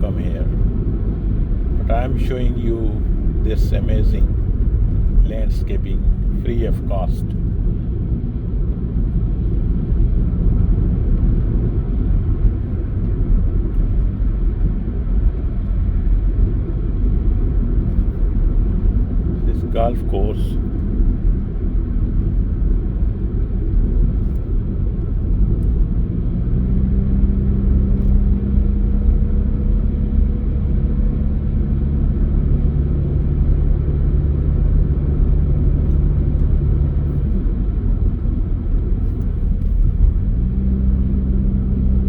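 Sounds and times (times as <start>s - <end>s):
road and engine rumble inside car: 0.0s - 42.0s.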